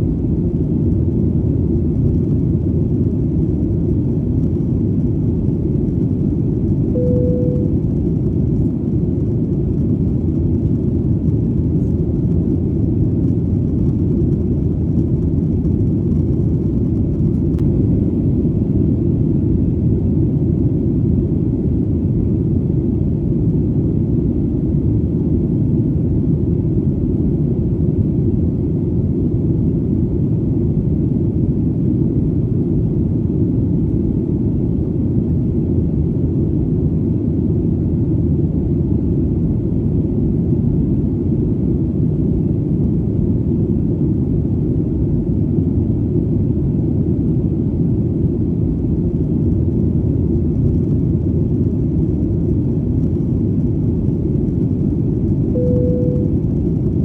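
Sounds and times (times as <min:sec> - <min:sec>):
airplane drone in flight: 0:00.0 - 0:57.0.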